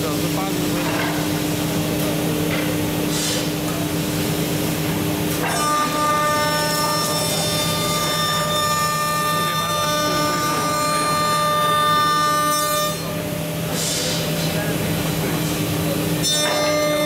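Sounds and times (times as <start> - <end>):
machine hum with cutting noise: 0.0 - 17.0.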